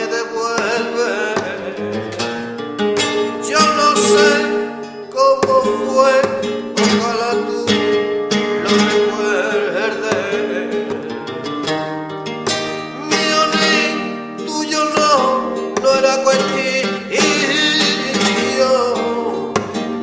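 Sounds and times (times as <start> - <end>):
acoustic guitar plucked and strummed: 0.0 - 20.0
person singing: 0.0 - 20.0.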